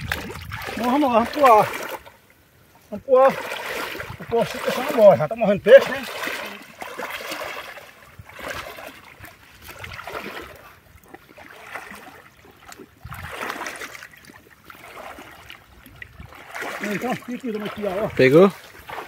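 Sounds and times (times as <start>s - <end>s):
people wading through water: 0.0s - 19.0s.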